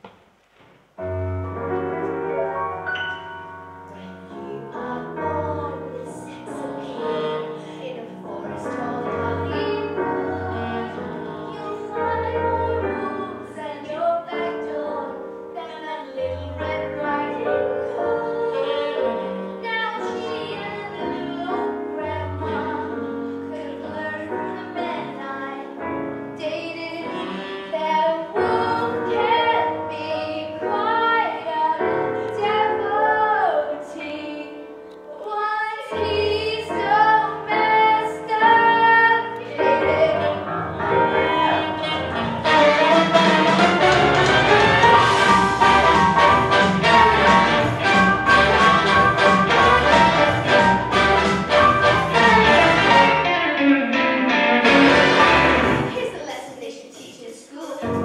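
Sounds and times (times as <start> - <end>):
musical theatre backing track: 0.0 - 58.0.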